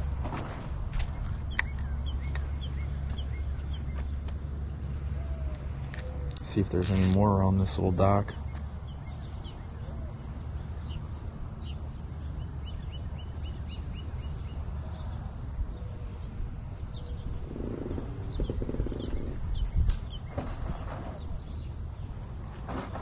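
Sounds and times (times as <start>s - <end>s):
birds chirping: 1.2s - 15.2s, 15.8s - 22.2s.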